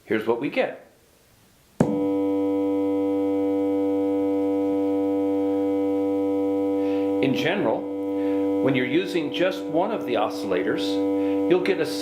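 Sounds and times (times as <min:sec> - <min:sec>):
electronic test tone: 0:01.8 - 0:12.0.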